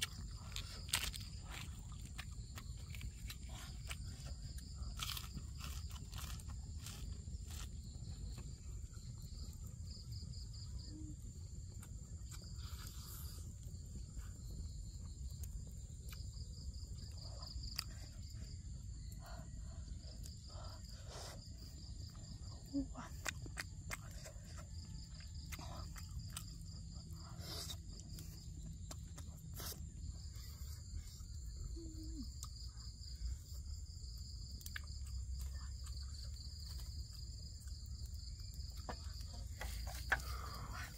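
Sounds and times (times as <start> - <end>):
chewing clicks and crunches: 0.0 - 10.7, 11.6 - 40.9
insects chirring: 0.0 - 40.9.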